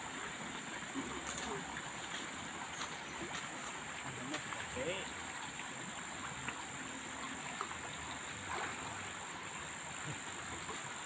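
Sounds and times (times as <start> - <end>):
frogs croaking faintly: 0.0 - 11.0.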